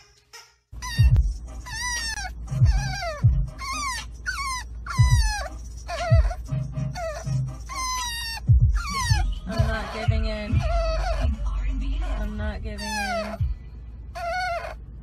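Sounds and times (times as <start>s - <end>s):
low steady rumble: 0.8s - 15.0s
puppy whining: 0.8s - 15.0s.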